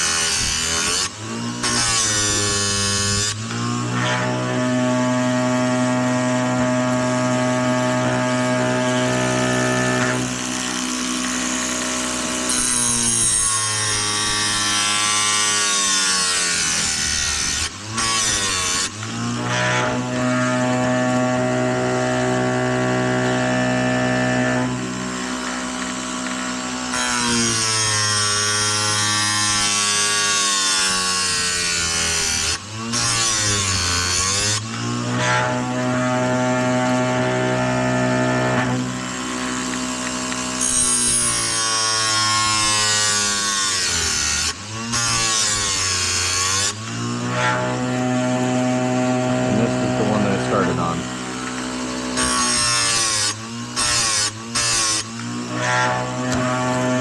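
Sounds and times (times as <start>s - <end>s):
chain sharpener motor hum: 0.0s - 57.0s
grinding wheel on chain teeth: 0.0s - 57.0s.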